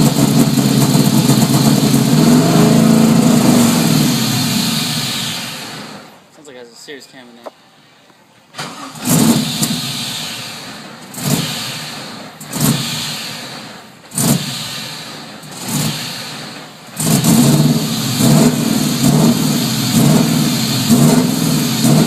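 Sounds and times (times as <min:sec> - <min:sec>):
car engine revving: 0:00.0 - 0:06.3, 0:08.7 - 0:22.0.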